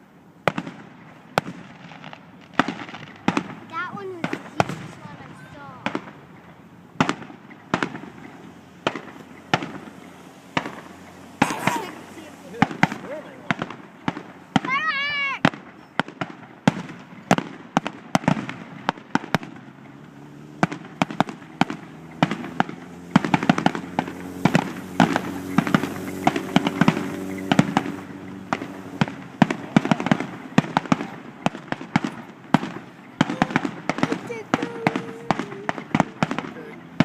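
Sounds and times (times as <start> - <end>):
fireworks popping and banging: 0.0 - 37.0.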